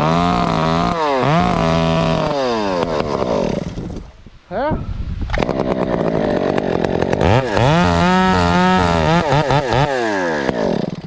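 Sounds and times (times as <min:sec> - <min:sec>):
chainsaw cutting at high revs: 0:00.0 - 0:04.1, 0:05.4 - 0:11.0.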